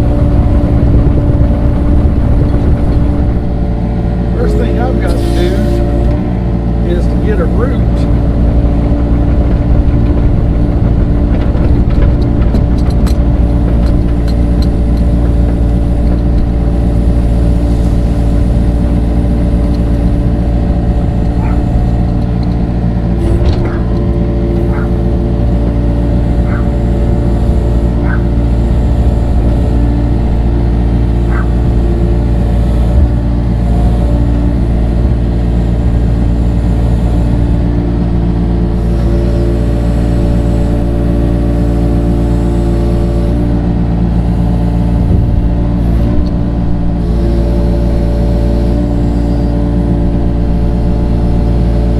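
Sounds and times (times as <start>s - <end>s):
excavator engine running: 0.0s - 51.9s.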